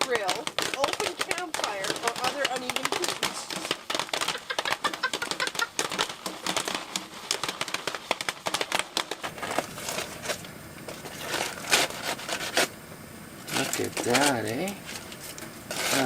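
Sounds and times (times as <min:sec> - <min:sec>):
popcorn popping: 0:00.0 - 0:16.0.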